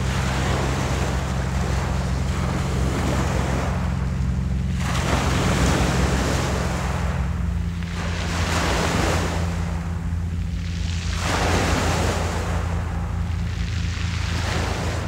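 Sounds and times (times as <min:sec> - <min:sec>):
waves washing on pebble beach: 0:00.0 - 0:15.0
wind rumble on microphone: 0:00.0 - 0:15.0.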